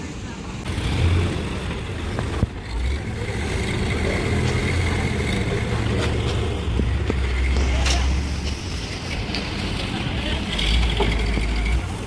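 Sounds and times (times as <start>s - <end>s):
diesel engine droning: 0.1s - 12.0s.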